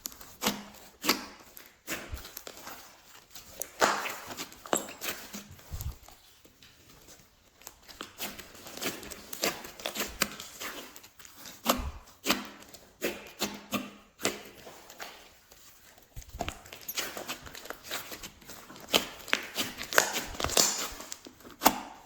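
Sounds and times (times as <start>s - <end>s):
slime squishing with sticky pops: 0.0s - 22.0s.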